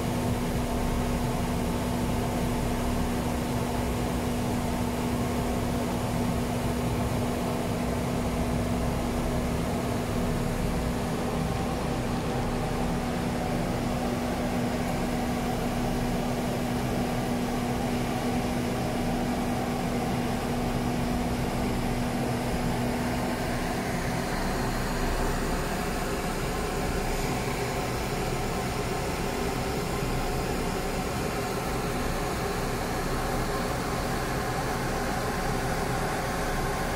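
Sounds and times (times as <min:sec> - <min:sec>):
machine and fan noise: 0:00.0 - 0:36.9
steady low hum: 0:00.0 - 0:36.9.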